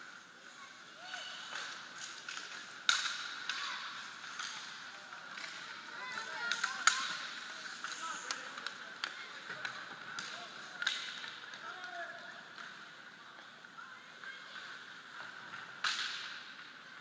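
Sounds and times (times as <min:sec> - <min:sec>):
skates scraping ice: 0:00.0 - 0:17.0
hockey sticks striking puck: 0:00.4 - 0:17.0.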